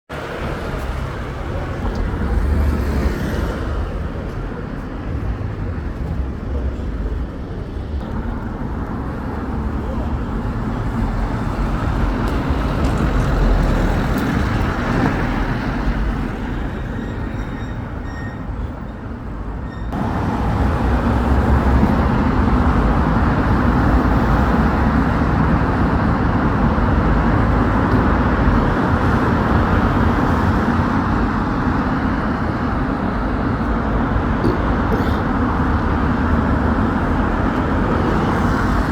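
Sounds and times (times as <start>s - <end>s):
road traffic rumble: 0.1s - 38.9s.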